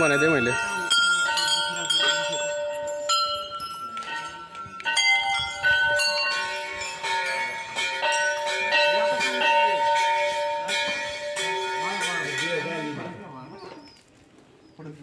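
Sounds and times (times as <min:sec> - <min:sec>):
temple bells ringing: 0:00.0 - 0:13.5.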